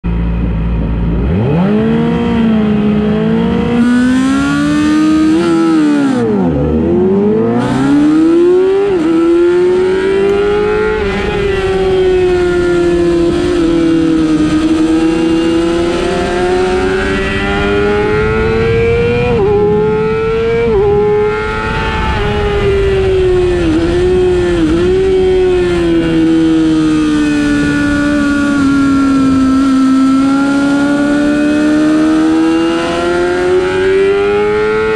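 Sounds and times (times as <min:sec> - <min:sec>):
race motorcycle engine revving: 0:00.7 - 0:34.9.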